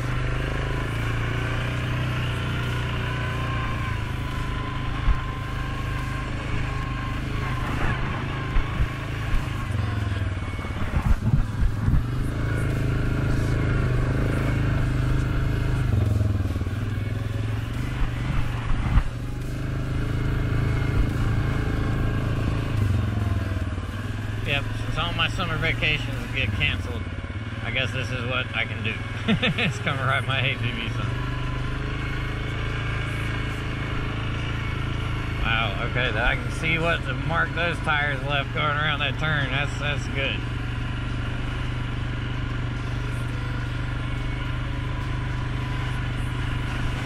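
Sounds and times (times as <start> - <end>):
quad bike engine running: 0.0 - 47.0.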